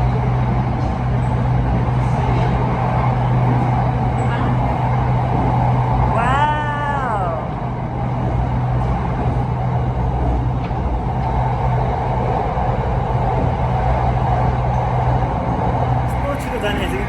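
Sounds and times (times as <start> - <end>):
rumble of train wheels: 0.0 - 17.0
train low hum: 0.0 - 17.0.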